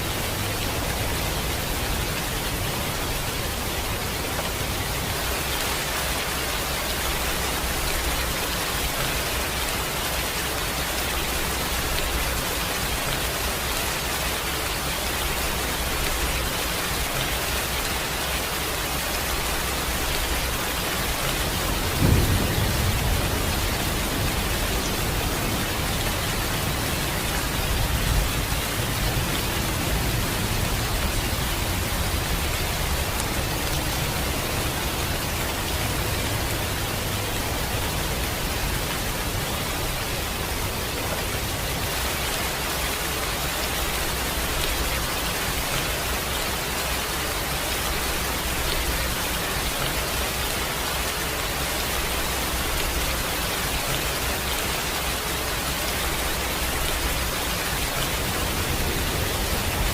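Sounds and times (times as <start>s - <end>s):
dense rainfall hissing: 0.0s - 59.9s.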